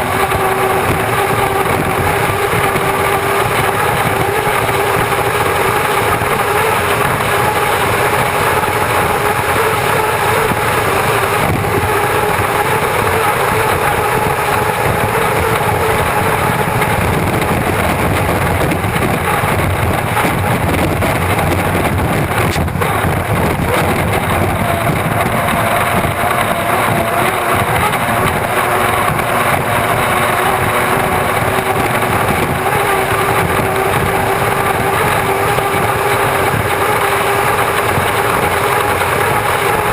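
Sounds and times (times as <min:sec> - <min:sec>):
rush of wind and water: 0:00.0 - 0:39.9
turbine engine whine: 0:00.0 - 0:39.9.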